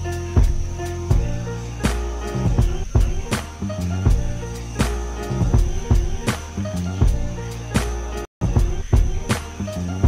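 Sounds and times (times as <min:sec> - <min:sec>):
deep held bass notes: 0:00.0 - 0:10.0
music with drum beat: 0:00.0 - 0:10.0.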